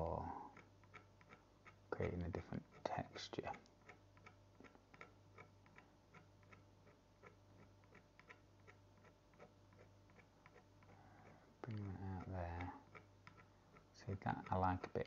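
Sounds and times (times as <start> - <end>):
needle scratching paint: 0.0 - 15.0.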